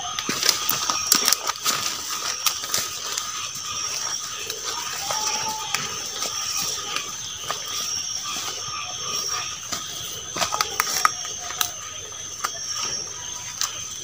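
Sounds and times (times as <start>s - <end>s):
footsteps through leafy undergrowth: 0.0s - 14.0s
night insects chirring: 0.0s - 14.0s.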